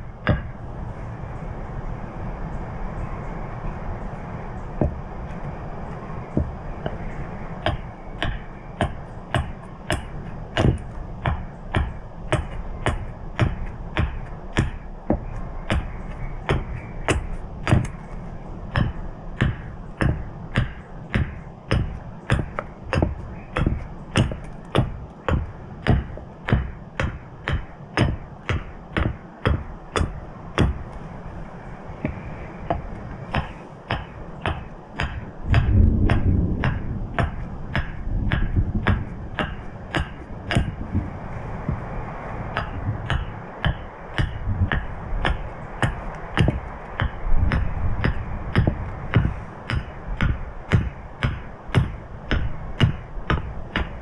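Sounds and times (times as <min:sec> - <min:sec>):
low steady rumble: 0:00.0 - 0:54.0.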